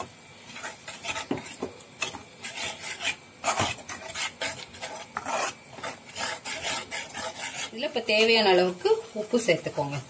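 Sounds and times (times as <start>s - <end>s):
spatula scraping a pan: 0.0s - 9.6s.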